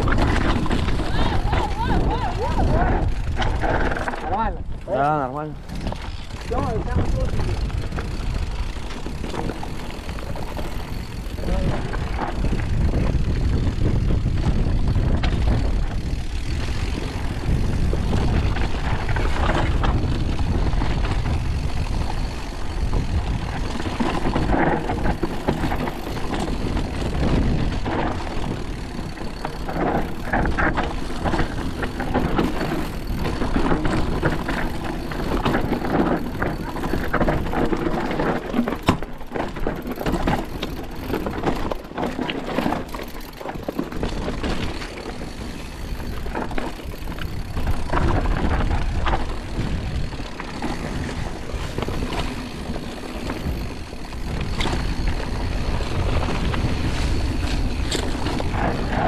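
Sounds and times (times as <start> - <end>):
bike rattling over stones: 0.0 - 59.0
tyres and wind rumbling: 0.0 - 59.0.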